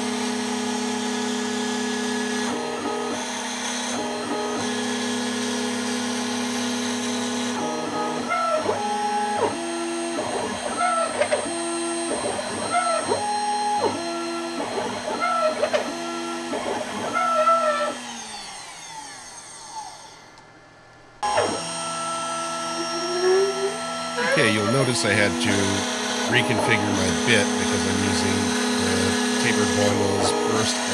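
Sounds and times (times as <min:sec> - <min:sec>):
router spindle whining: 0:00.0 - 0:20.5, 0:21.2 - 0:30.9.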